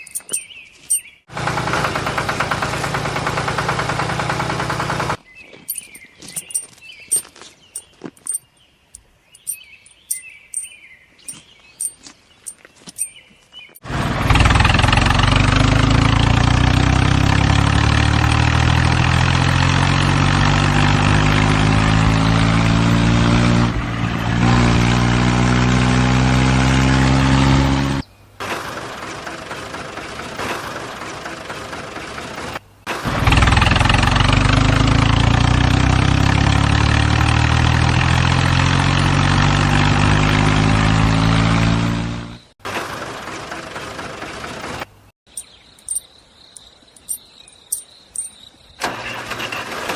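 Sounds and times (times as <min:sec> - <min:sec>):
tractor engine running: 0:00.0 - 0:07.2, 0:13.8 - 0:46.0, 0:47.0 - 0:49.9.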